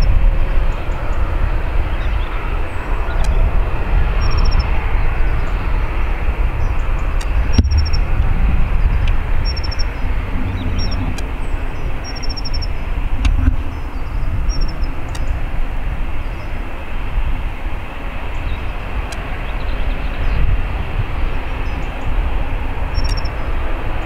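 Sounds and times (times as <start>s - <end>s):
distant jet engines rumbling: 0.0s - 24.0s
wind buffeting microphone: 0.0s - 24.0s.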